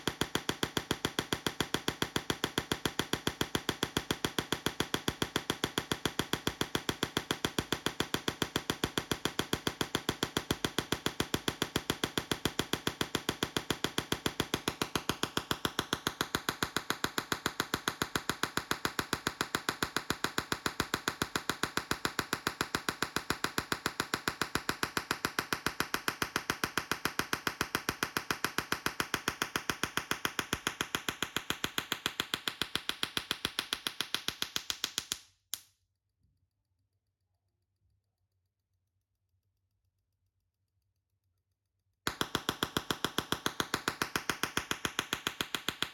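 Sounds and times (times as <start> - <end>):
tesla coil sparking snaps: 0.2 - 35.2, 42.1 - 45.9.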